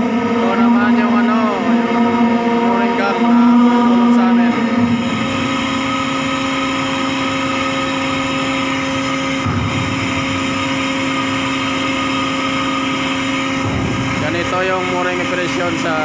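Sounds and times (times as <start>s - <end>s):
ship machinery droning: 0.0s - 16.0s.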